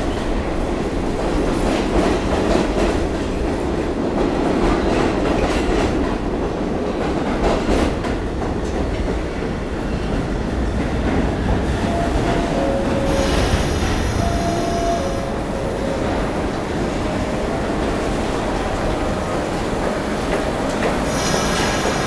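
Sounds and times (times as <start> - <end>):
subway wheels rumbling on rails: 0.0 - 22.0.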